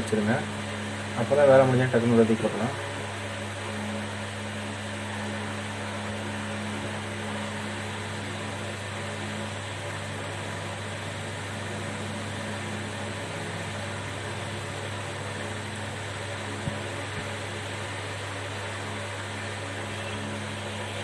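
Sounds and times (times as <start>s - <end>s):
electric fan motor whirring: 0.0s - 21.0s.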